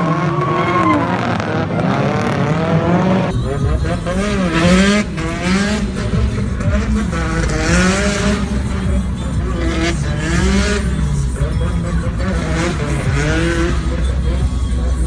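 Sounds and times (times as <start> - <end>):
car rumble and road noise: 0.0 - 15.0
music with singing: 2.9 - 15.0.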